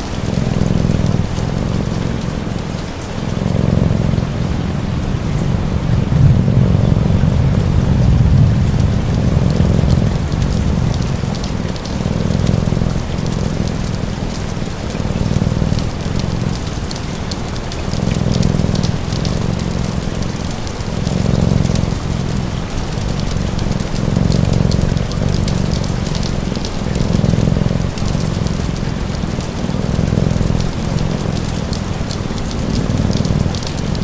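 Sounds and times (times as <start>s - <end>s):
fire crackling and popping: 0.0s - 5.0s, 6.0s - 34.0s
cat purring: 0.0s - 34.0s
steady rain: 0.0s - 34.0s.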